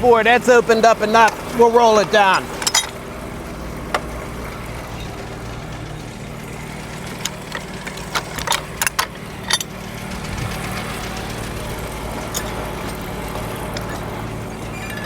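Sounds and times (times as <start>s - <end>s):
log clanking on carriage: 0.0s - 15.0s
sawmill engine idling: 0.0s - 15.0s.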